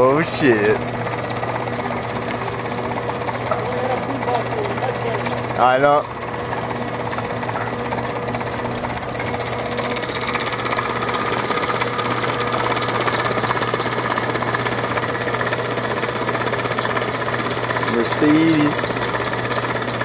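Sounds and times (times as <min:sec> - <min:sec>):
hoist motor hum: 0:00.0 - 0:20.0
mechanical rattle: 0:00.0 - 0:20.0.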